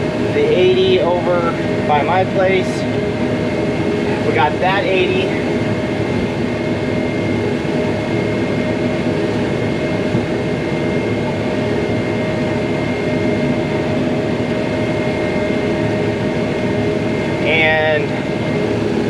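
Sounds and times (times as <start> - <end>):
high whine: 0.0 - 19.0
tractor engine running: 0.0 - 19.0.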